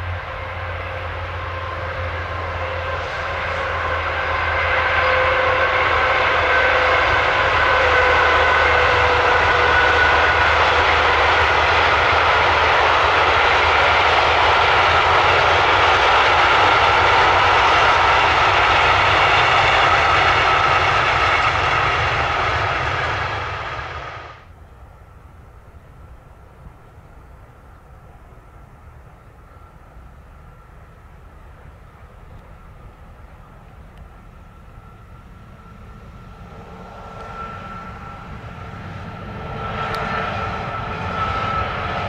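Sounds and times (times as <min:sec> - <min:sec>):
freight train wheels on rail: 0:00.0 - 0:42.0.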